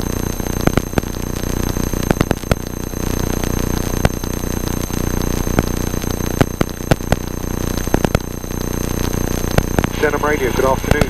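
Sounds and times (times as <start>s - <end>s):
aircraft cockpit drone: 0.0s - 11.0s
high electrical whines: 0.0s - 11.0s
sharp interference clicks: 0.0s - 11.0s.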